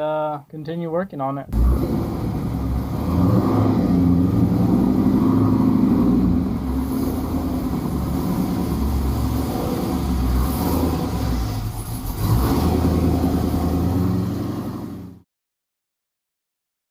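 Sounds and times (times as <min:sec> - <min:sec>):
engine low rumble: 0:01.5 - 0:15.2.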